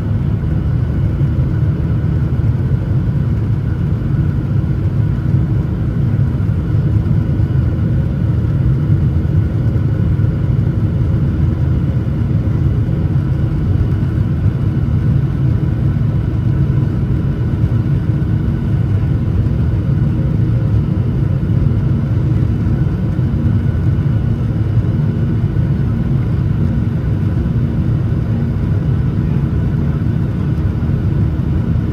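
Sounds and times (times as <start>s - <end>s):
faint engine whine: 0.0s - 31.9s
jet engine cabin rumble: 0.0s - 31.9s.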